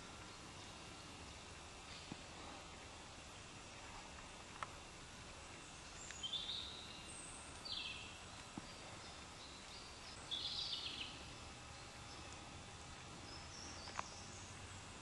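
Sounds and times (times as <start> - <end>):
low background hiss of woods: 0.0 - 15.0
songbirds chirping: 0.0 - 15.0.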